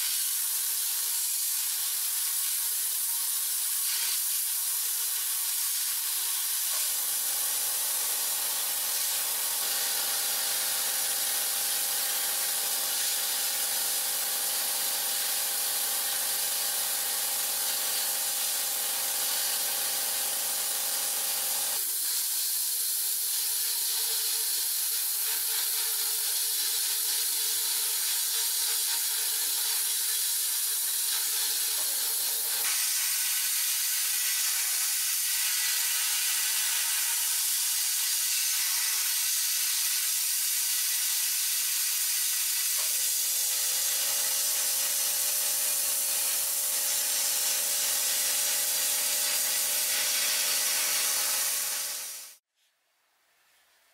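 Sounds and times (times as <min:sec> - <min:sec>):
sandblasting hiss: 0:00.0 - 0:52.4.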